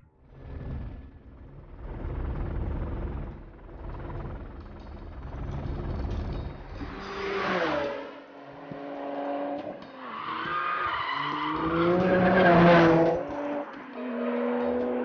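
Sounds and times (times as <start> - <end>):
sports car engine accelerating: 0.0 - 10.2, 10.8 - 15.0.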